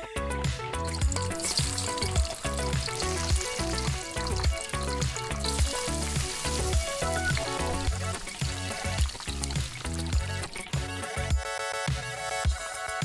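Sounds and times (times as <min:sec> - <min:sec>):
background music with steady beat: 0:00.0 - 0:13.0
onions sizzling in hot oil: 0:00.8 - 0:11.3.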